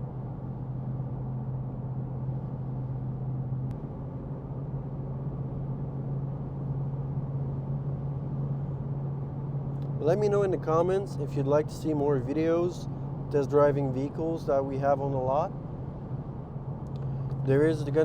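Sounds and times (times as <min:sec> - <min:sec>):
car engine low drone: 0:00.0 - 0:18.0
road noise: 0:00.0 - 0:18.0.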